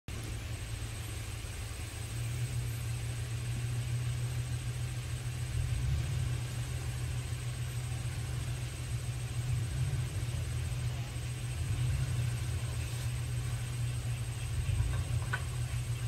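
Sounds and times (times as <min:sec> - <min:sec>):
off-road vehicle engine rumbling: 0:00.1 - 0:16.0.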